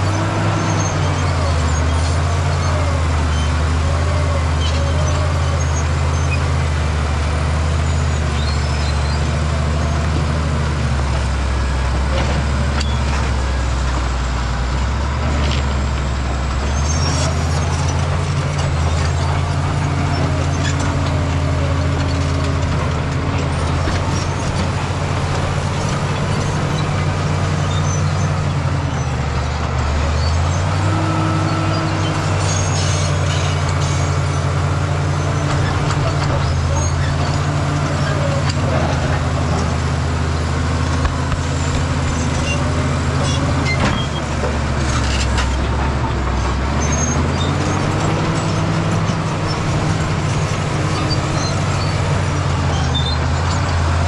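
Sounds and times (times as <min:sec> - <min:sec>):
bulldozer diesel engine: 0:00.0 - 0:54.0
steel tracks and rocks clanking: 0:00.0 - 0:54.0.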